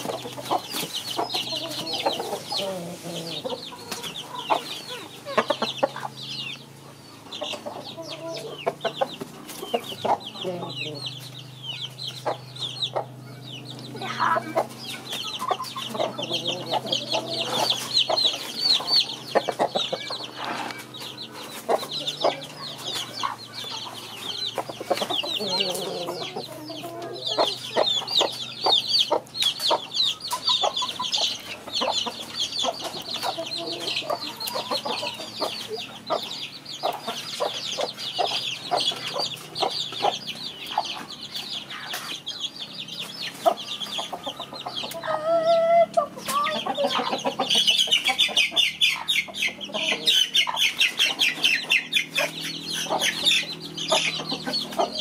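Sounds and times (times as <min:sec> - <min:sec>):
rooster clucking: 0:00.0 - 0:55.0.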